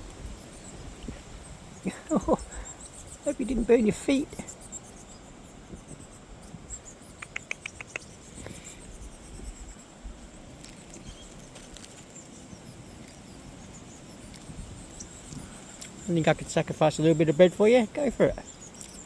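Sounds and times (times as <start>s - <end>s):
low wind noise: 0.0s - 19.0s
small birds chirping: 0.0s - 19.0s.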